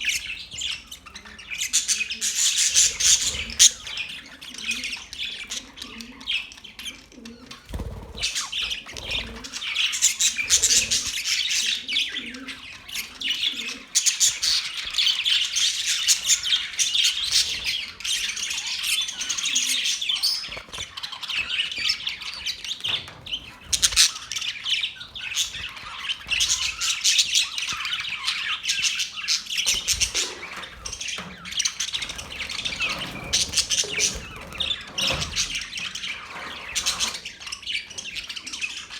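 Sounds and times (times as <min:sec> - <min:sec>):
parrots chattering and squawking: 0:00.0 - 0:38.9.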